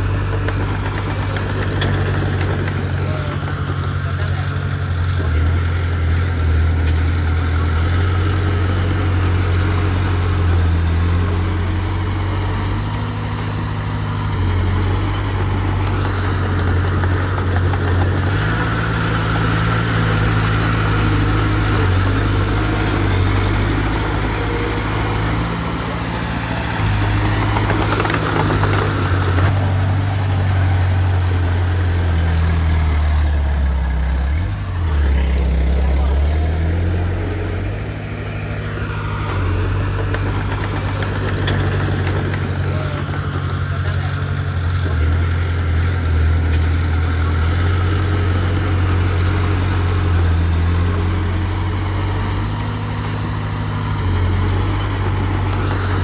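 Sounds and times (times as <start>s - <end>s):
diesel engine of earthmover: 0.0s - 56.0s.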